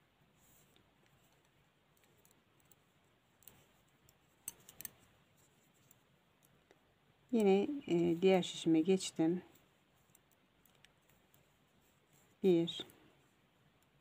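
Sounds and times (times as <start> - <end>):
knitting needles clicking: 0.5 - 8.0, 9.2 - 14.0.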